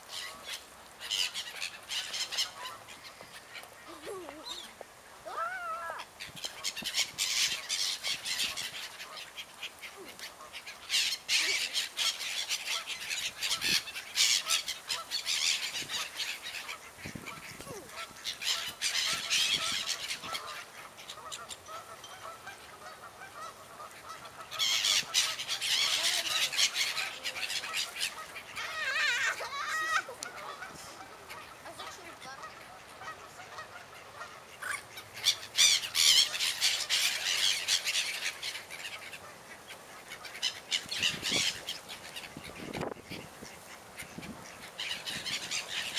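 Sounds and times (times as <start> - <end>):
gulls calling: 0.0 - 45.9
wings flapping and splashing: 0.0 - 45.9.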